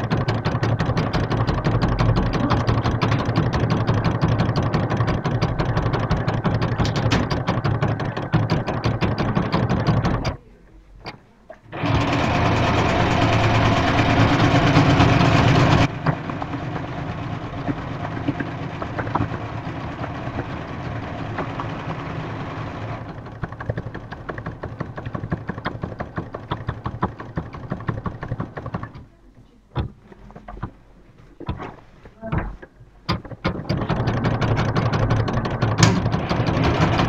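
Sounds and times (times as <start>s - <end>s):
sewing machine stitching: 0.0s - 10.4s, 11.7s - 29.2s, 33.1s - 37.0s.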